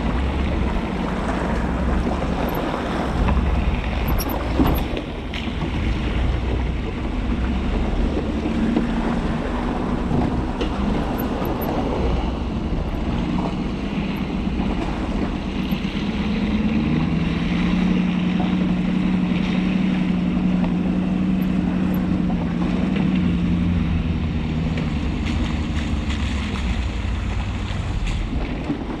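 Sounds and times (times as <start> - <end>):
diesel truck engine running: 0.0 - 29.0
truck splashing through water: 0.0 - 29.0.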